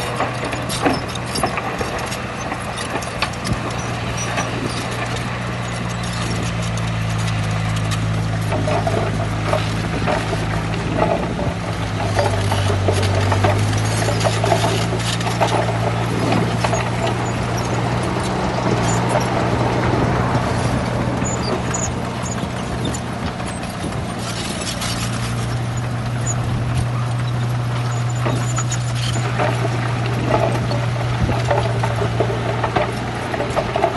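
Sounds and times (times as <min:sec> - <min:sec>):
bulldozer diesel engine running: 0:00.0 - 0:33.9
steel tracks clanking: 0:00.0 - 0:33.9.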